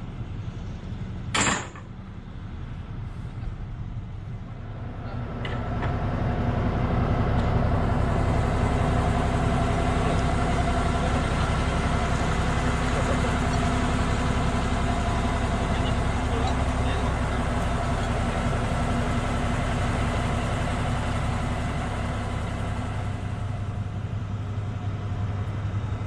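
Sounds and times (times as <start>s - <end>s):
excavator diesel engine hum: 0.0s - 26.0s.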